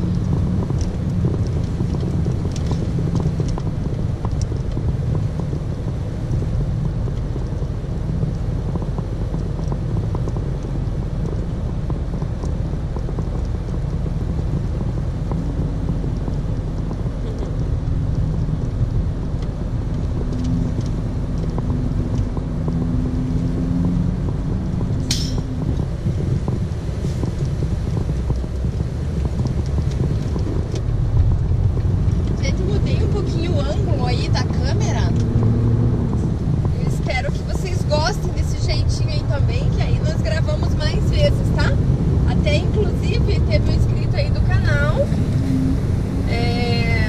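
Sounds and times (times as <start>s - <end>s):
truck engine and road noise: 0.0s - 47.0s.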